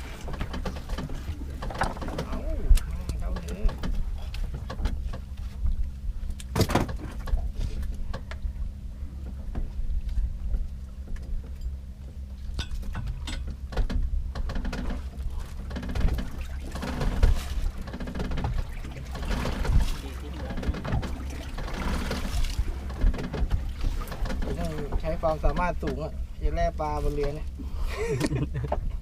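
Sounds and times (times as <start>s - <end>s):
boat engine hum: 0.0s - 29.0s.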